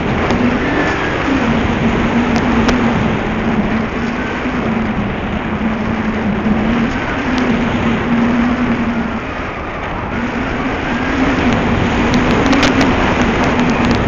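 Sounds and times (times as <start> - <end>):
model plane engine buzzing: 0.0 - 14.0
wind rumble on microphone: 0.0 - 14.0.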